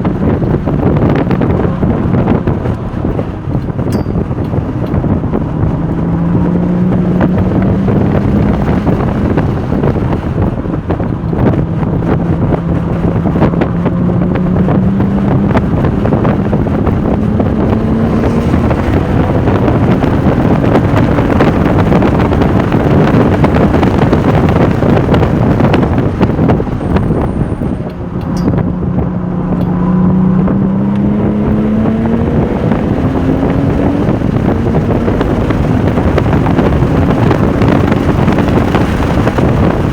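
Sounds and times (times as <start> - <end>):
car engine accelerating hard: 0.0 - 39.9
wind noise on microphone: 0.0 - 39.9.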